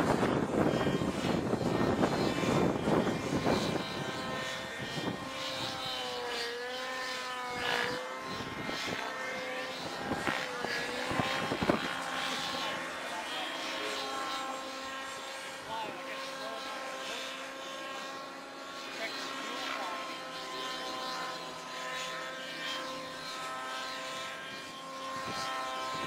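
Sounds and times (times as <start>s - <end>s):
model plane motor whine: 0.0s - 26.0s.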